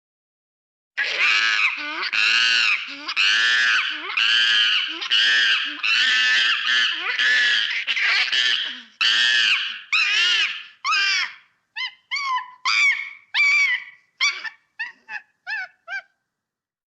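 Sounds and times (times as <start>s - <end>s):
monkey screeching: 1.0s - 16.1s.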